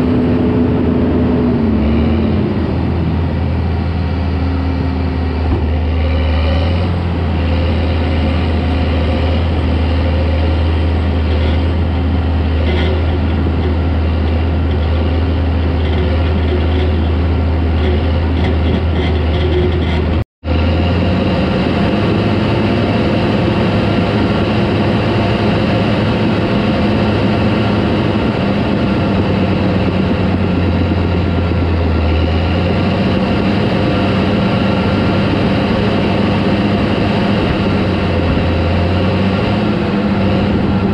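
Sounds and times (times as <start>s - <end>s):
diesel engine running: 0.0s - 40.9s
steel tracks and blade working earth: 0.0s - 40.9s.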